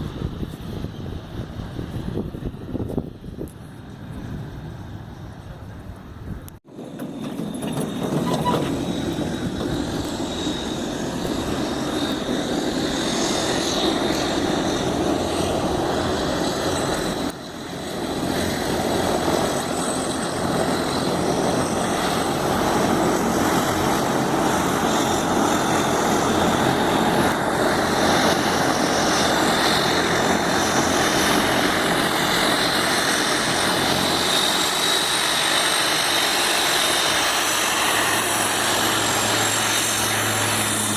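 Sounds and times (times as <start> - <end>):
turboprop engines running: 0.0 - 40.9.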